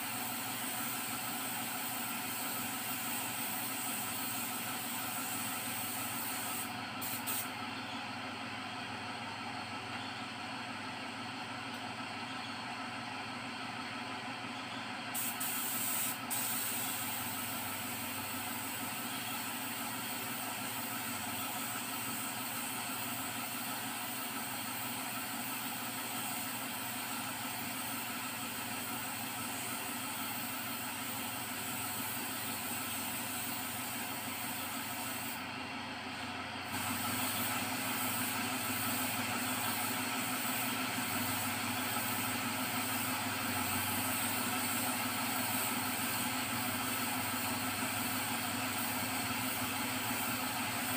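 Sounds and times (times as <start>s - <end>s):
spray gun hissing compressed air: 0.0s - 7.6s, 15.1s - 35.4s, 36.7s - 50.9s.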